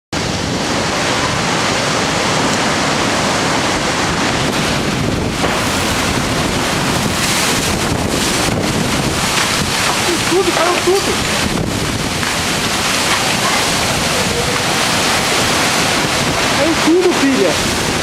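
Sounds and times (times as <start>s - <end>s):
storm wind buffeting microphone: 0.2s - 18.0s.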